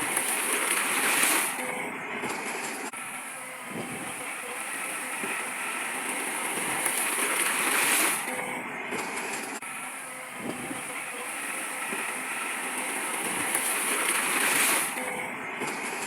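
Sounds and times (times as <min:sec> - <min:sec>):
heavy earthmoving machinery running: 0:00.0 - 0:16.0.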